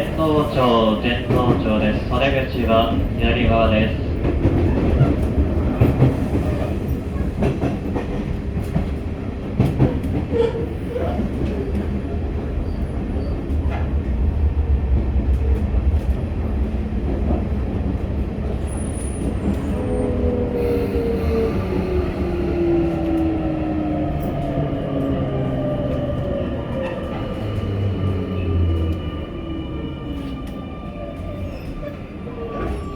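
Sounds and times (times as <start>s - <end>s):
rail joint clicks: 0.0s - 14.2s, 15.2s - 32.9s
train wheels rumbling on rail: 0.0s - 32.9s.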